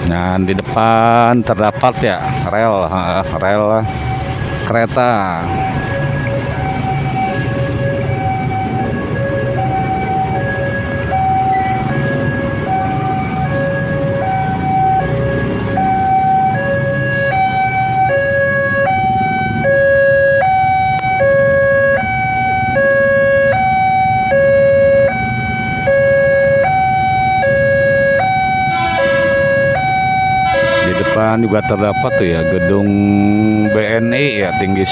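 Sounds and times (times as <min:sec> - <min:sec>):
traffic and engine noise: 0:00.0 - 0:34.9
level crossing alarm two tones: 0:01.6 - 0:34.9.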